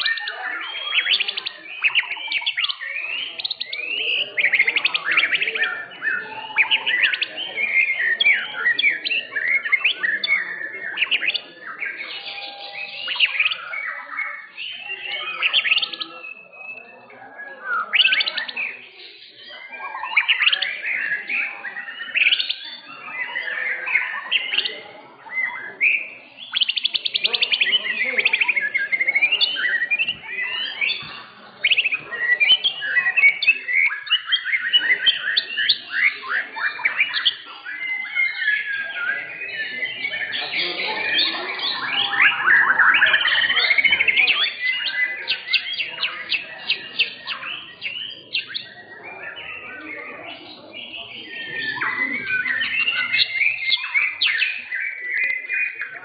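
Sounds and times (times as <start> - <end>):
birds singing whistles and trills: 0.0 - 56.0.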